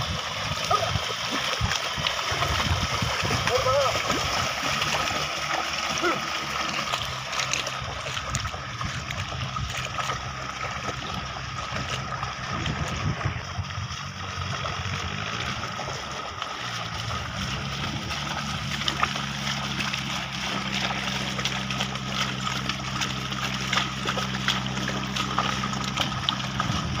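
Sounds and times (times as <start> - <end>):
hooves and plough in mud: 0.0 - 27.0
steady low hum: 0.0 - 27.0
wet splashes and squelches: 0.0 - 27.0.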